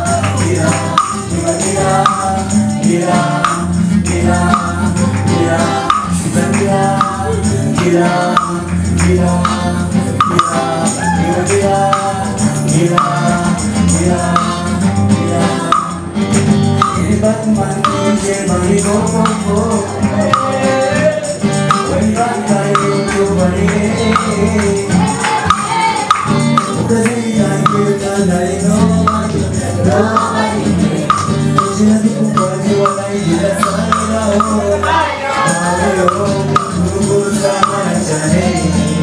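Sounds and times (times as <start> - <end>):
man singing into a microphone: 0.0 - 39.0
music with a steady beat: 0.0 - 39.0.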